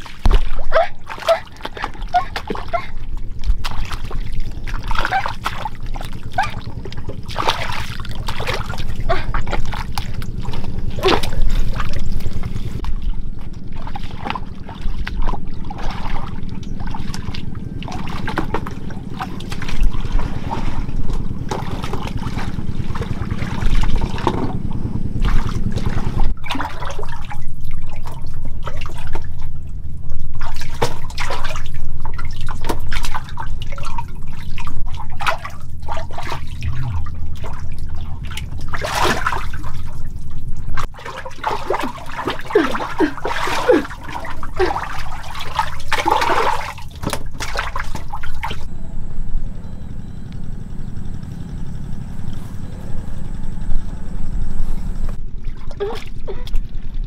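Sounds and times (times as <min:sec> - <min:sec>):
water splashing and sloshing: 0:00.0 - 0:48.7, 0:52.0 - 0:57.0
low motor hum: 0:00.0 - 0:57.0.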